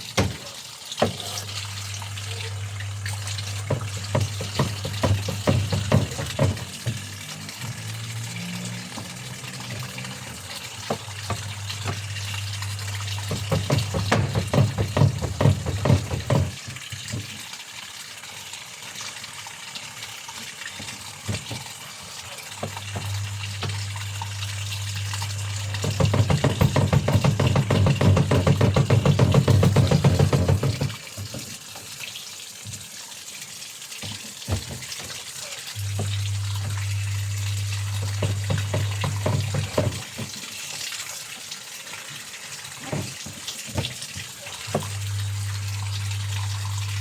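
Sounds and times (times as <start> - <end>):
water running and splashing: 0.0 - 47.0.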